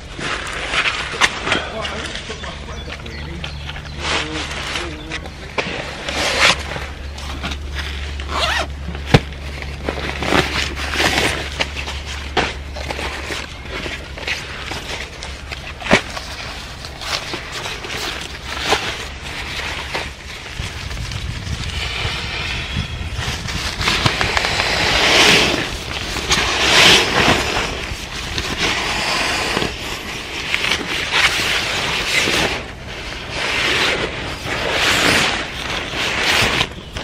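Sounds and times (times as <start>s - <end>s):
nylon and canvas rustling: 0.0s - 37.0s
steady low rumble: 0.0s - 37.0s.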